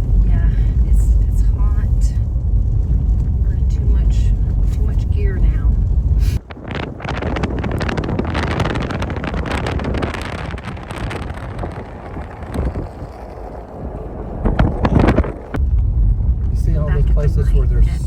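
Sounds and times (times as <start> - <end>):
car road noise on snow: 0.0 - 18.0
wind on microphone: 0.0 - 18.0.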